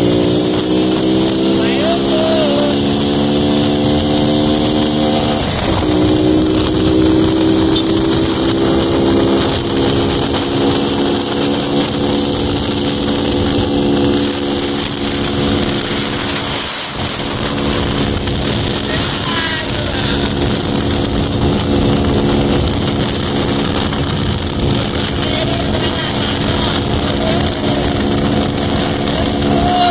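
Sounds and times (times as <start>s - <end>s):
motorcycle engine running: 0.0s - 29.9s
wind noise: 0.0s - 29.9s.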